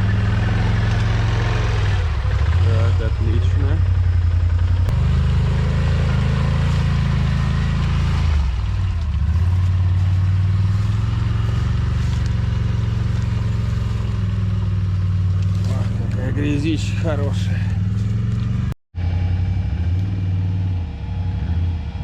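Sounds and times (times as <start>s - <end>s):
atv engine running: 0.0s - 21.9s.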